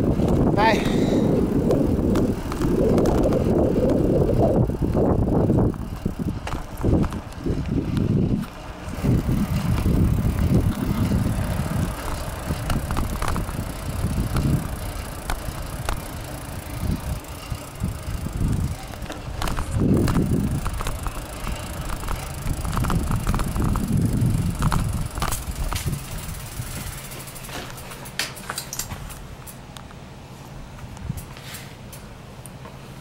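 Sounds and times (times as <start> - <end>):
wind buffeting microphone: 0.0 - 27.2
road noise: 0.0 - 33.0.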